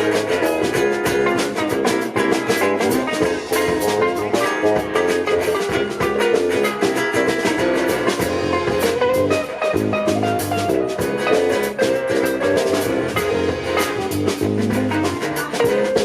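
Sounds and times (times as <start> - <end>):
drum kit beat: 0.0 - 16.0
guitar: 0.0 - 16.0
ringing melodic lead: 2.8 - 16.0.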